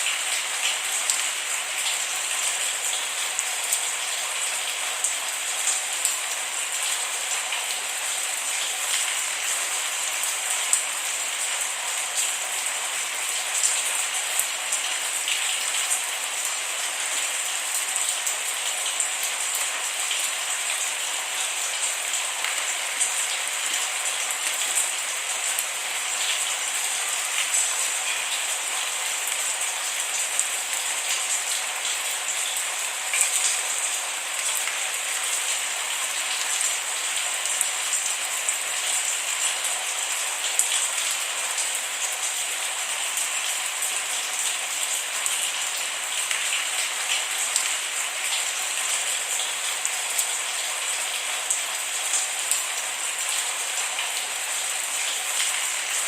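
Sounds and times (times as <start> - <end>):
raindrops ticking on a surface: 0.0 - 56.0
steady rain: 0.0 - 56.0.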